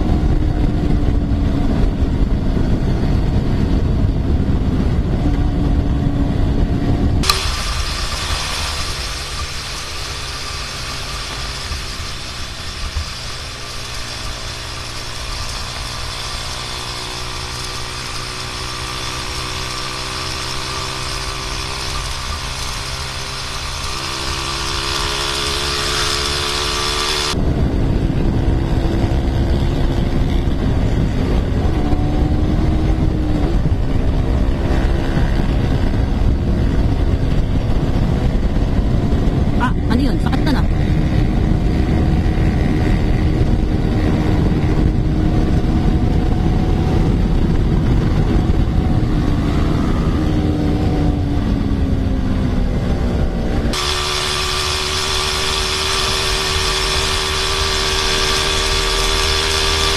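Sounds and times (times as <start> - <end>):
single-cylinder motorcycle engine: 0.0 - 59.9
sport bike engine: 0.0 - 59.9
wind noise on microphone: 0.0 - 59.9.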